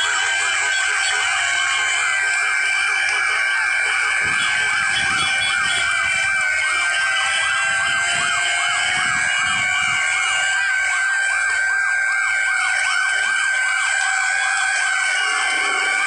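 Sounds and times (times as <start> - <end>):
fire truck sirens: 0.0 - 16.0.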